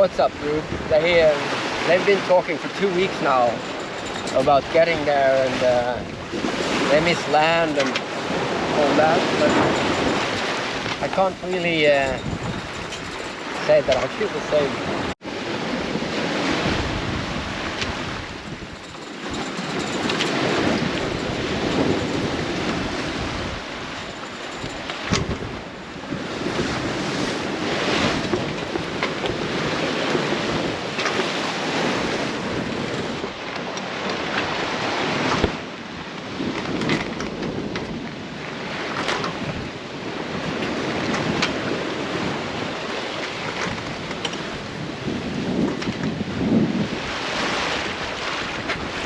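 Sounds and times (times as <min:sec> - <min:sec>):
sea rushing past a hull: 0:00.0 - 0:49.0
wind buffeting the microphone: 0:00.0 - 0:49.0.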